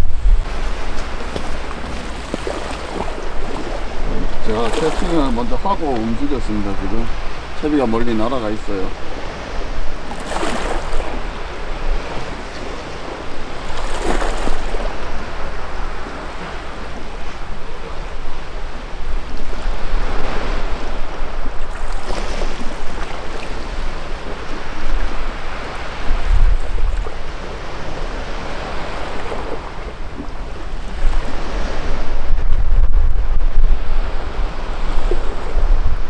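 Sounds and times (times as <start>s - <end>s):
sea waves washing against rocks: 0.0s - 36.0s
wind buffeting microphone: 0.0s - 36.0s.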